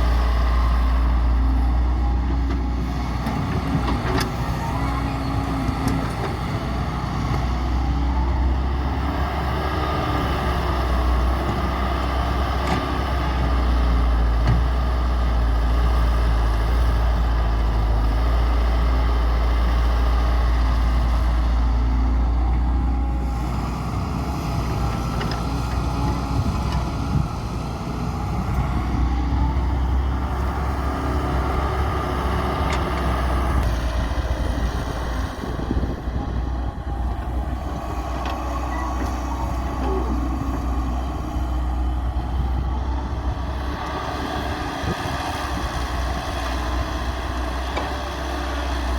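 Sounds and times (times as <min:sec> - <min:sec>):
excavator diesel engine rumbling: 0:00.0 - 0:48.9.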